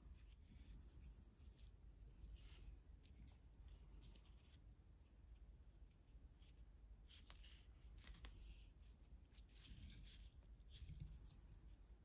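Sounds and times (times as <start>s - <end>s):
crochet hook rustling in yarn: 0.0s - 12.0s.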